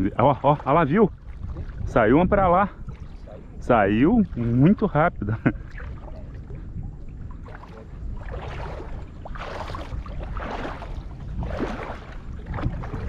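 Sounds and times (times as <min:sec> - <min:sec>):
shallow water sloshing: 0:00.0 - 0:13.0
steady low rumble: 0:00.0 - 0:13.0.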